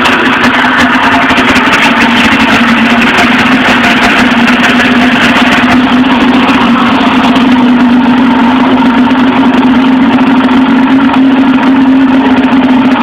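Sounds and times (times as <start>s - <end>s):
snowmobile engine idling: 0.0s - 13.0s.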